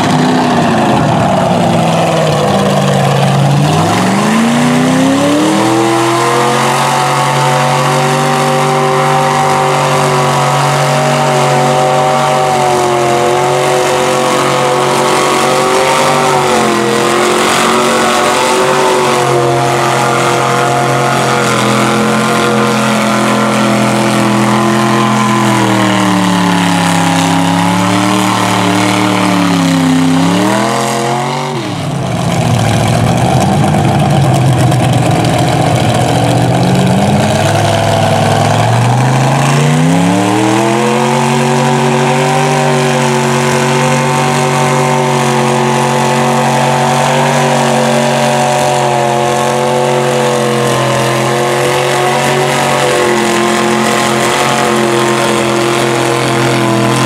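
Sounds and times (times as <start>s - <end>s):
tires slinging mud: 0.0s - 57.0s
truck engine revving: 0.0s - 57.0s.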